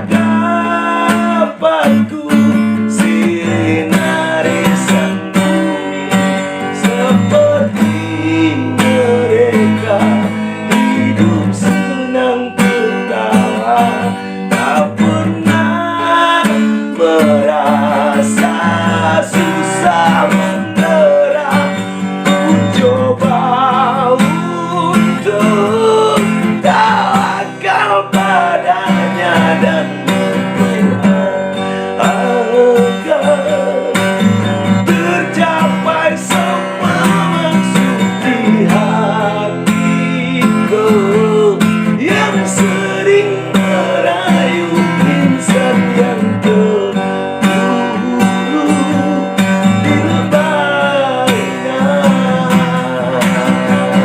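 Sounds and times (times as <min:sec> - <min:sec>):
slow rock guitar melody: 0:00.0 - 0:54.0.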